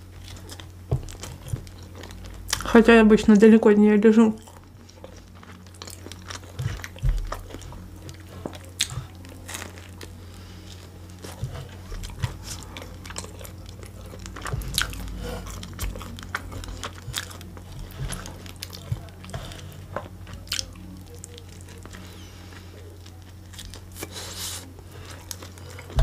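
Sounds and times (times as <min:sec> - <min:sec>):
crunchy chewing and biting: 0:00.0 - 0:02.8, 0:04.4 - 0:26.0.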